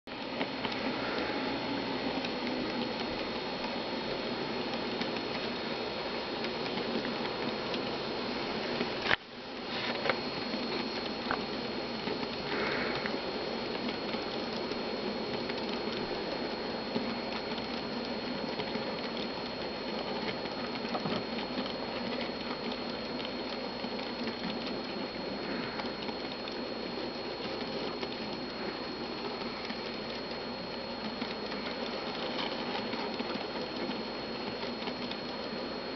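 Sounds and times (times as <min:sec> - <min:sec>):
thin high whine: 0:00.1 - 0:35.9.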